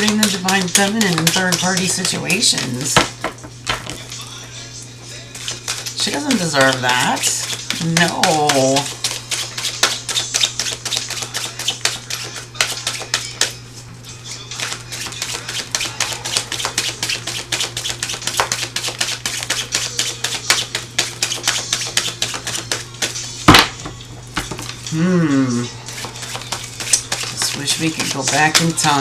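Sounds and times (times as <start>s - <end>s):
cards being shuffled: 0.0s - 4.2s, 5.3s - 13.8s, 14.5s - 23.4s, 25.8s - 29.0s
cards slapping: 0.0s - 4.2s, 5.4s - 13.6s, 14.5s - 24.8s, 25.8s - 29.0s.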